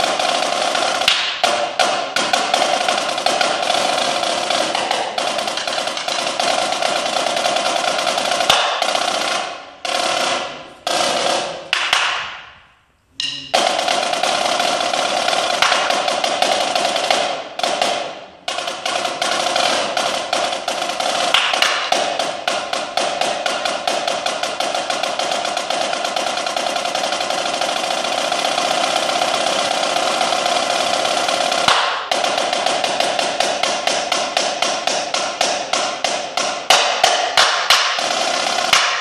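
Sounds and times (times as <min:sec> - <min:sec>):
snare drum roll: 0:00.0 - 0:12.6, 0:13.2 - 0:39.0.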